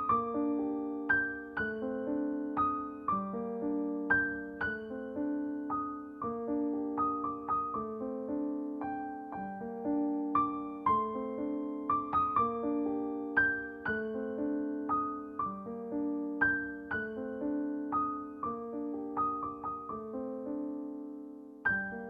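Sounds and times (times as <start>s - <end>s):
gentle solo piano music: 0.0s - 22.0s.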